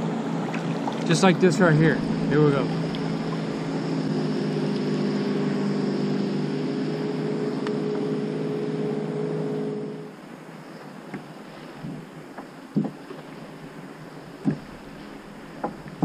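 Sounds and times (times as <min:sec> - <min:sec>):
motorboat engine droning: 0:00.0 - 0:16.0
water rushing: 0:00.0 - 0:16.0.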